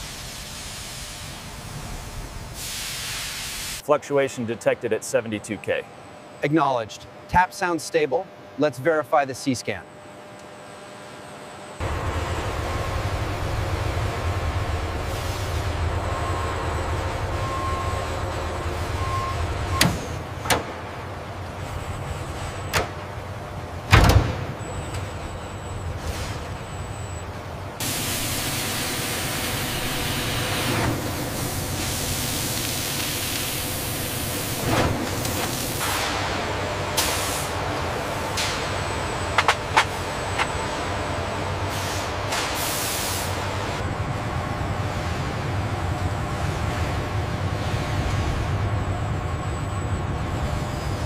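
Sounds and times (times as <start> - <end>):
machinery hum: 0.0 - 51.0.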